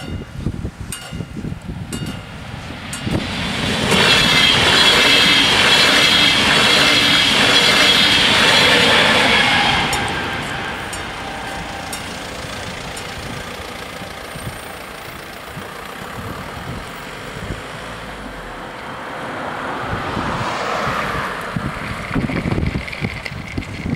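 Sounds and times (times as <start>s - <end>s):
cars driving past: 1.8s - 23.3s.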